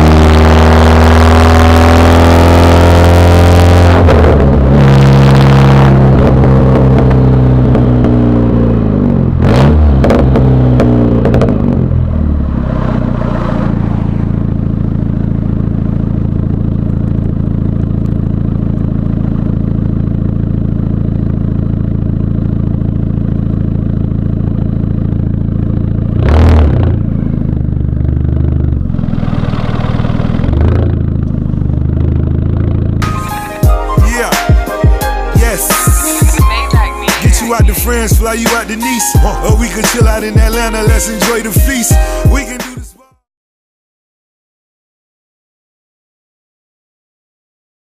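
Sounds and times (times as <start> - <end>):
exhaust crackle: 0.0 - 34.3, 37.3 - 42.7
car engine droning while driving: 0.0 - 42.9.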